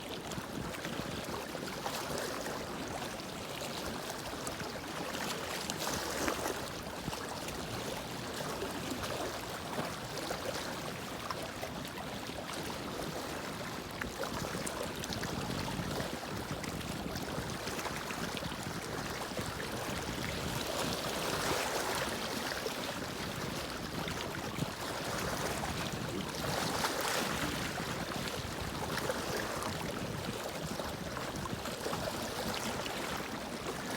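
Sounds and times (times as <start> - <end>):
wind: 0.0 - 33.9
water lapping: 0.1 - 33.9.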